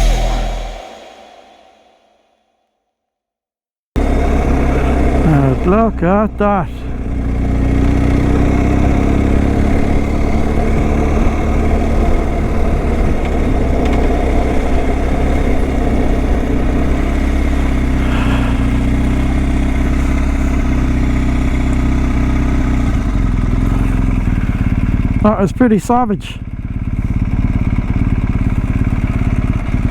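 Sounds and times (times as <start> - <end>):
motorcycle engine running: 4.0 - 29.9.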